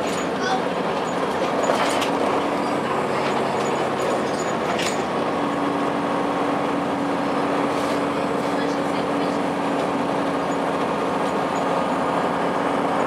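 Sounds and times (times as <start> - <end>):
bus diesel engine running: 0.0 - 13.0
road noise: 0.0 - 13.0.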